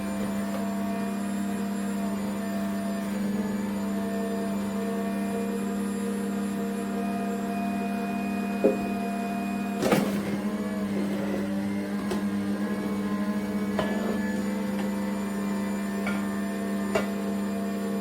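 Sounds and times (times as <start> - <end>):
juicer motor humming: 0.0 - 18.0.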